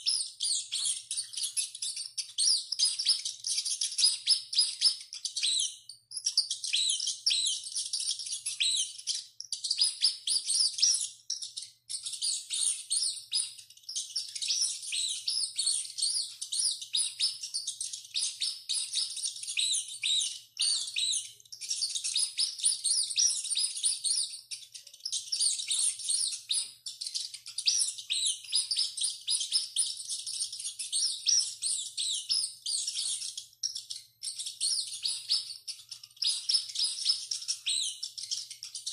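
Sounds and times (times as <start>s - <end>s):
rats squeaking: 0.0s - 38.9s.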